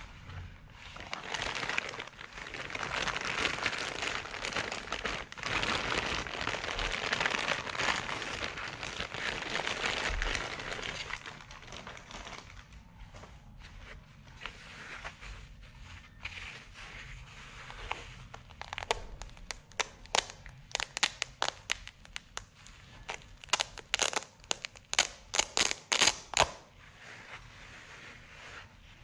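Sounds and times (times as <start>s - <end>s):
fabric cover rustling: 0.0s - 29.0s.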